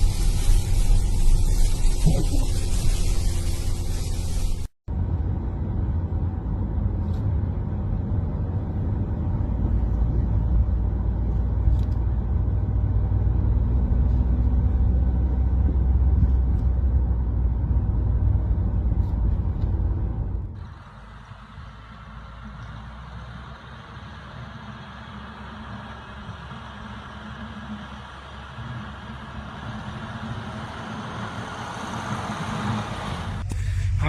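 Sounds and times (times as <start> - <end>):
motor vehicle running: 0.0 - 34.0.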